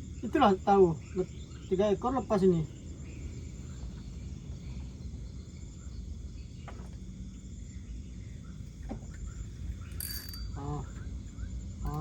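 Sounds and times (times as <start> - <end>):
night insects chirping: 0.0 - 12.0.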